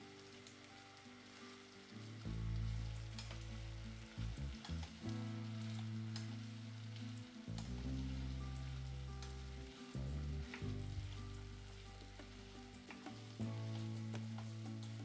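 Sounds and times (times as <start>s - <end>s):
food sizzling in oil: 0.0s - 15.0s
soft background music: 0.2s - 15.0s.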